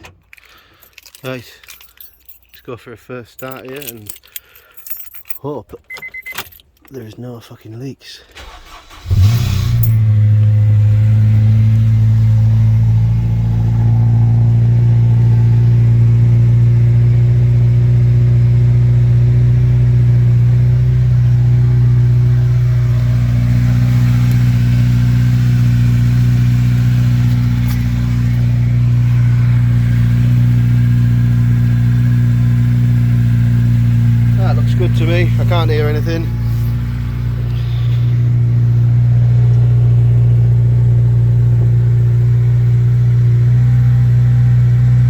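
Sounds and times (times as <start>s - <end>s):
car engine idling: 8.4s - 45.0s.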